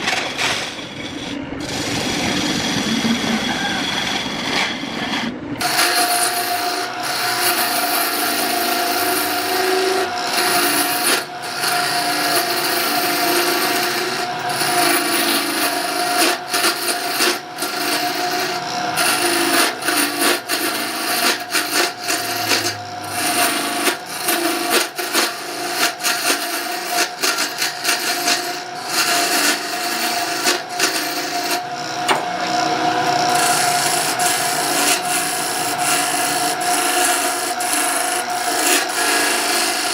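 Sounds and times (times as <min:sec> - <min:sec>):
turning tool scraping wood: 0:00.0 - 0:39.9
wood lathe whining: 0:00.0 - 0:39.9.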